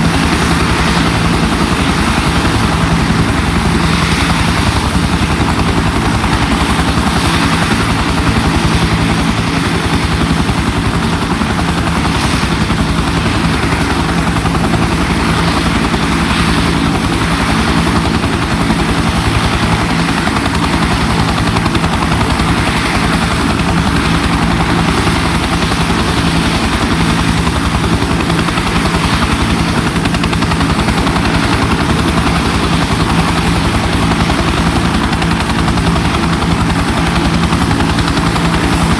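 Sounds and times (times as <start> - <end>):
helicopter rotor chop: 0.0 - 38.9
helicopter turbine drone: 0.0 - 38.9.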